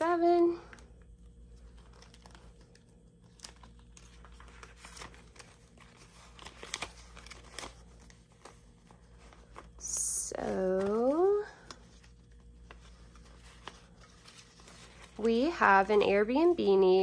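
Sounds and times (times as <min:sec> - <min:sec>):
paper bills rustling and flicking: 0:00.0 - 0:17.0.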